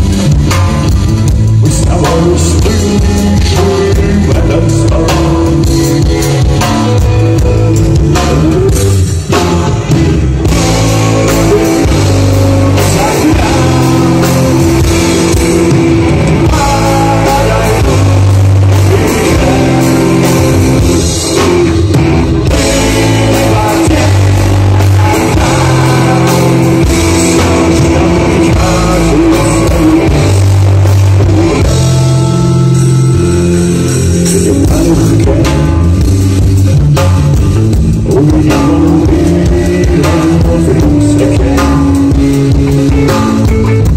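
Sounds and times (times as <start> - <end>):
rock band playing live: 0.0 - 43.9
man singing: 1.4 - 36.3, 37.5 - 43.9.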